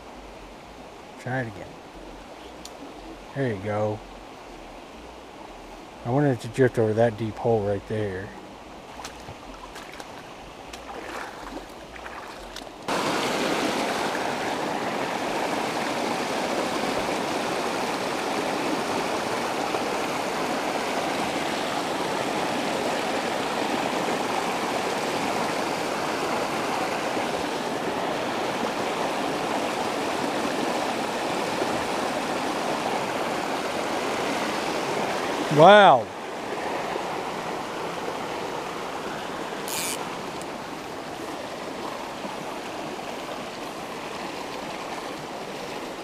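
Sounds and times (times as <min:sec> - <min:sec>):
creek rushing over stones: 0:00.0 - 0:46.0.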